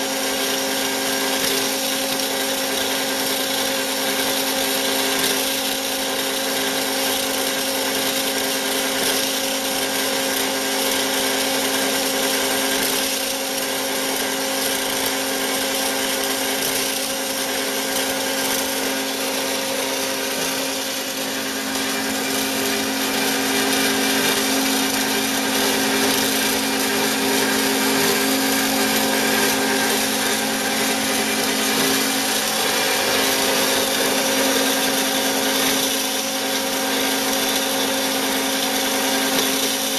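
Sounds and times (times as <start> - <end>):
bandsaw machine hum: 0.0 - 39.9.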